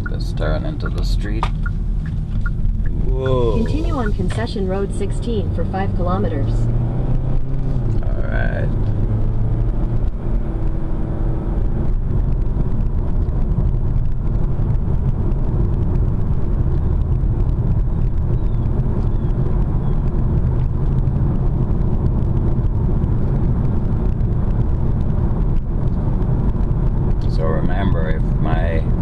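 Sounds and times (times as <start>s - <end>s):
car cabin road rumble: 0.0s - 29.0s.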